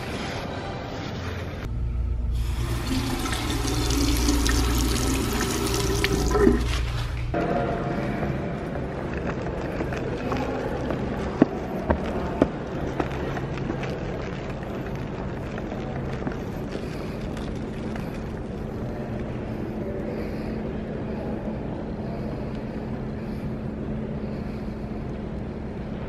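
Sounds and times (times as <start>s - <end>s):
indoor hall hum: 0.0s - 26.0s.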